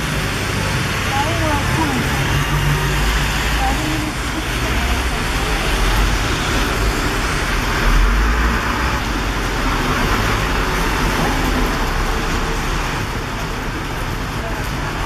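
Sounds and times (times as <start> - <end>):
heavy rain on street: 0.0 - 15.0
road traffic rumbling: 0.0 - 15.0.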